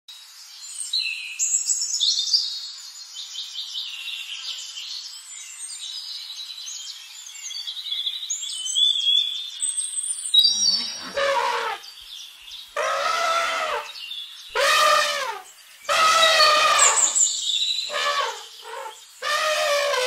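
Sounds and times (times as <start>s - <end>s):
songbirds chirping and trilling: 0.2s - 20.0s.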